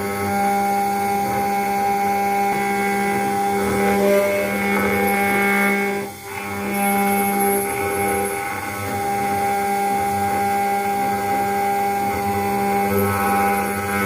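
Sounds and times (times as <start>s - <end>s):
end mill cutting brass: 0.0s - 14.0s
router spindle whine: 0.0s - 14.0s.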